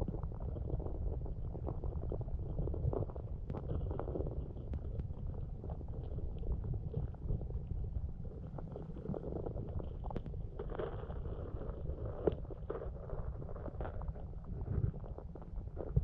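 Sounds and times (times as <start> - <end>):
faint clicks and ticks: 0.0 - 16.0
muffled underwater rumble: 0.0 - 16.0.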